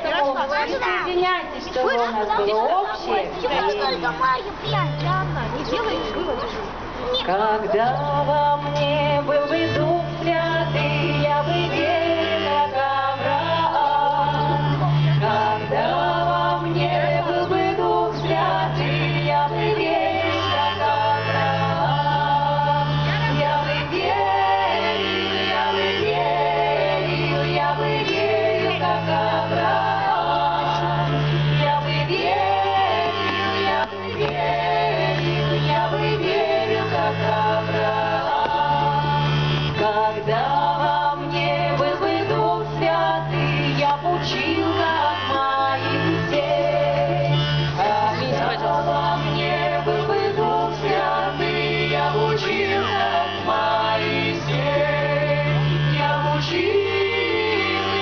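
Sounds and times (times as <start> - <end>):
accordion: 0.0 - 58.0
choir singing through loudspeakers: 0.0 - 58.0
steady bass notes: 0.0 - 58.0.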